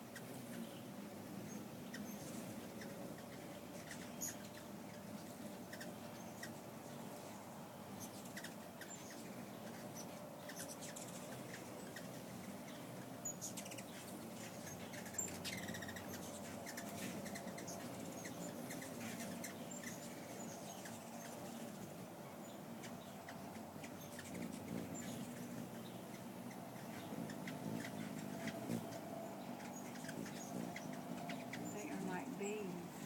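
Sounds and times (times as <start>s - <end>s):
hummingbird wingbeats humming: 0.0s - 33.0s.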